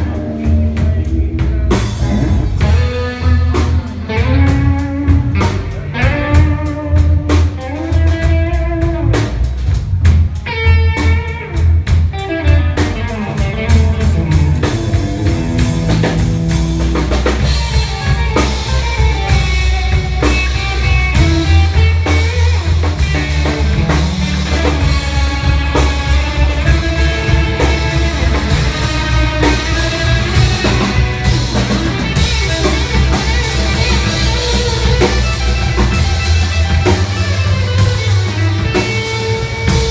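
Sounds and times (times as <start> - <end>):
bass guitar: 0.0 - 39.9
drum kit: 0.0 - 39.9
lead guitar: 0.0 - 39.9.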